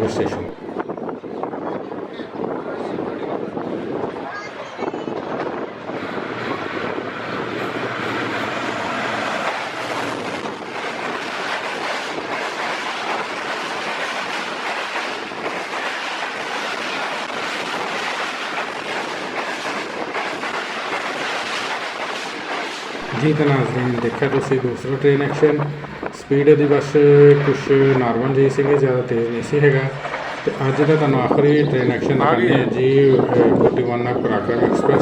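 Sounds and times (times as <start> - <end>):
train coaches rushing past: 1.5 - 35.0
diesel locomotive engine hum: 5.3 - 35.0.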